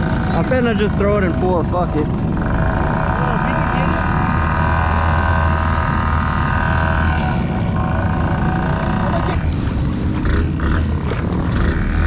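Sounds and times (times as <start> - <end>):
atv engine running under load: 0.0 - 12.0
rough noisy sound: 0.0 - 12.0.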